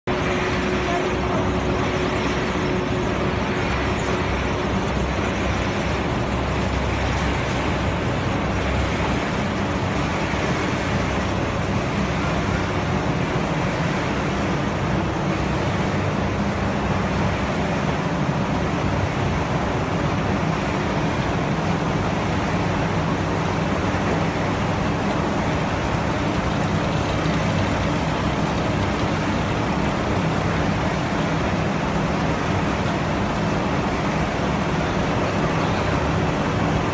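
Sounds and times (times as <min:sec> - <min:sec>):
machine hum and hiss: 0:00.0 - 0:36.9.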